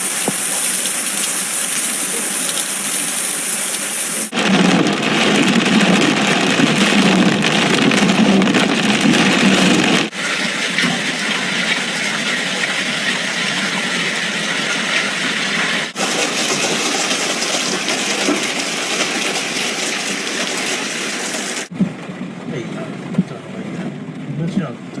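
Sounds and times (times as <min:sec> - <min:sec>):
hailstorm downpour: 0:00.0 - 0:24.9.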